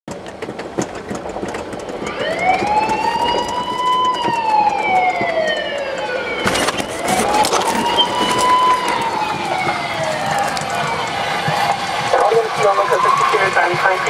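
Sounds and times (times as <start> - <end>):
road noise: 0.1 - 14.0
police siren wail: 1.9 - 14.0.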